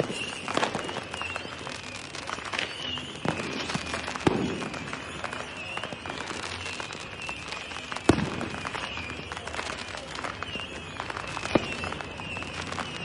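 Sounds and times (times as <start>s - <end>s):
firecrackers crackling and popping: 0.0s - 13.0s
loud firework bangs: 0.0s - 13.0s
wavering high whistle: 0.0s - 13.0s.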